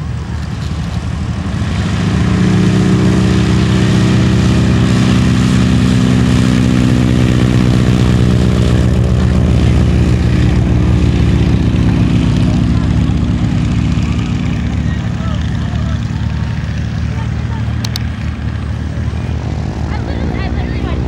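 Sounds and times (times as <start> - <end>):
engine running loudly: 0.0 - 21.0.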